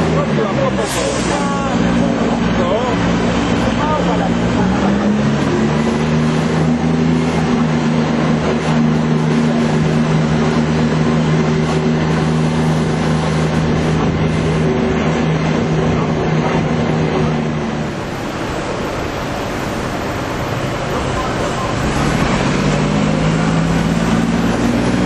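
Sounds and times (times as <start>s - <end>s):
bus engine running: 0.0s - 25.0s
road noise: 0.0s - 25.0s.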